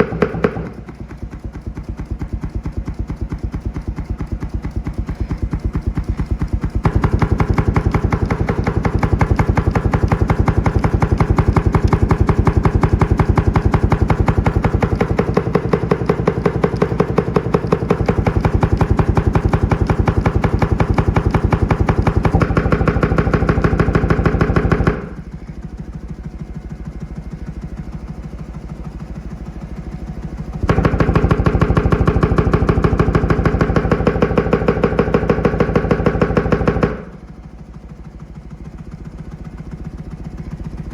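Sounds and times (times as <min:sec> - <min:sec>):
subwoofer pulsing thumps and buzz: 0:00.0 - 0:40.9.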